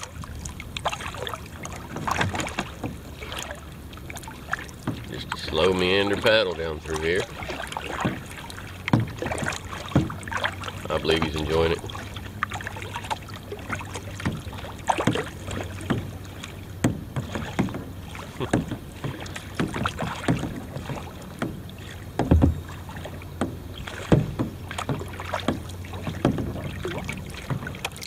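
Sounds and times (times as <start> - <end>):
kayak paddle dipping into water: 0.0 - 28.0
paddle knocks: 0.0 - 28.0
water splashes and drips: 0.0 - 28.0.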